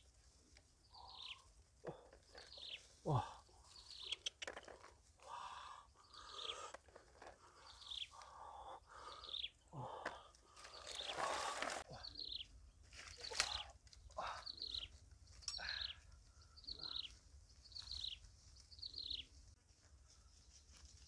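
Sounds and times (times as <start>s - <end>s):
bird calling: 0.9s - 19.3s.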